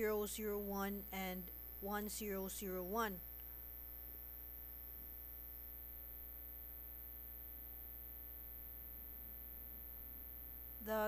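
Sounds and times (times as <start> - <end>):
faint high-pitched whine: 0.0 - 11.0
low electrical mains hum: 0.0 - 11.0.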